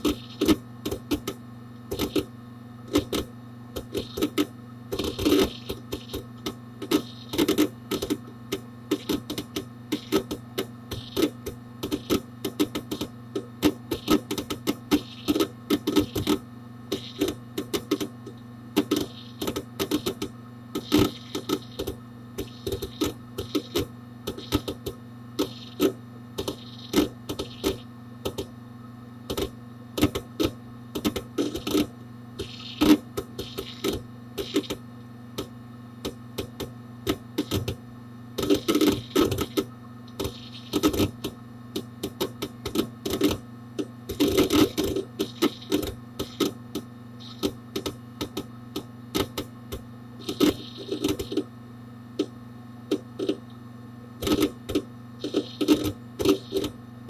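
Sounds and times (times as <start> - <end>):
hard disk clicking and chattering: 0.0 - 28.6, 29.2 - 53.6, 54.2 - 56.8
computer steady hum: 0.0 - 57.0.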